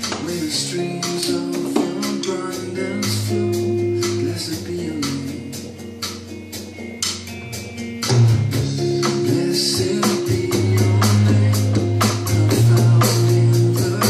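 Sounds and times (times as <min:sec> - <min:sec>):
electronic drum kit: 0:00.0 - 0:14.0
song over speakers: 0:00.0 - 0:14.0.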